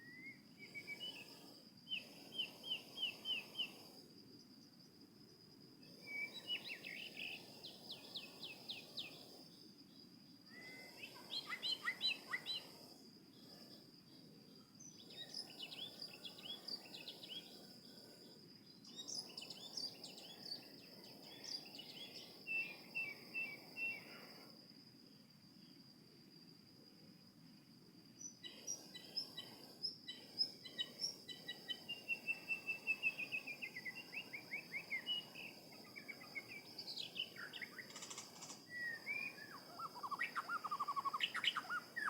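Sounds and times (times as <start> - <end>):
songbird singing: 0.0 - 4.9, 5.8 - 24.5, 28.0 - 42.0.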